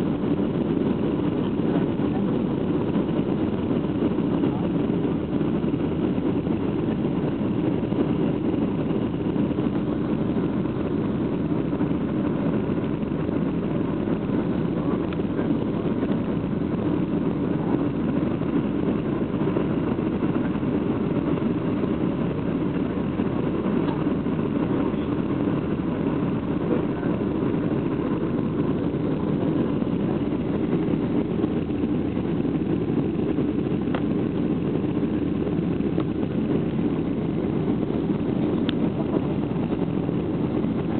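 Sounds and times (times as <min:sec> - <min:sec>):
jet engines roaring in cabin: 0:00.0 - 0:40.9.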